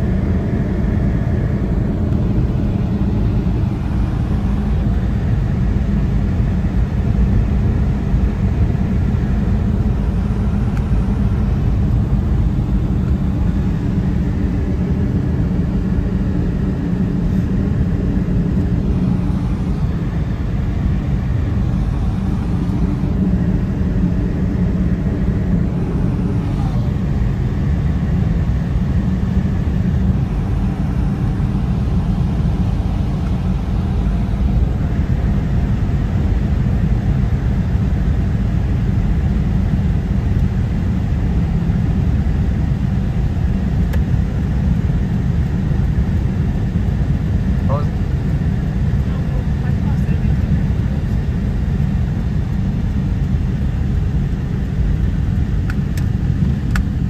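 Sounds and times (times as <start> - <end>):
car driving heard from cabin: 0.0 - 57.0.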